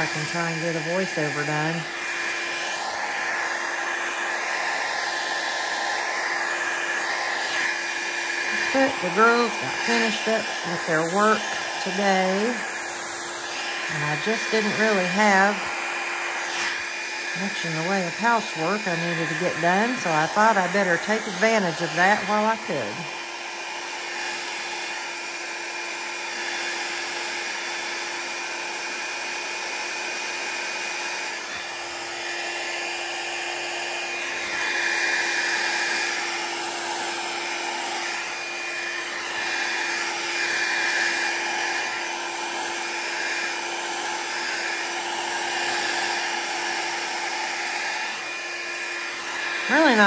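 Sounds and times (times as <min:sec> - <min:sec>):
hair dryer blowing air: 0:00.0 - 0:50.0.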